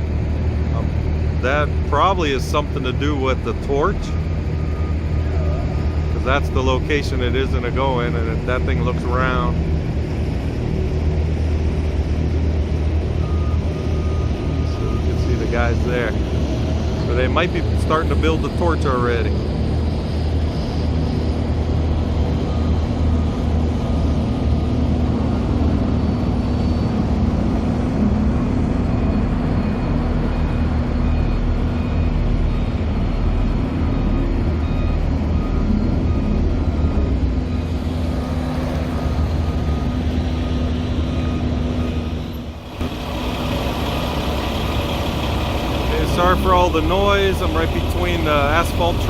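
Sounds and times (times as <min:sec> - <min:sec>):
diesel truck engines idling: 0:00.0 - 0:49.0.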